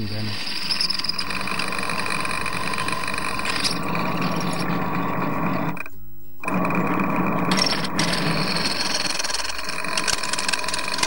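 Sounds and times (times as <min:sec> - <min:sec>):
drill press drilling steel: 0:00.0 - 0:11.0.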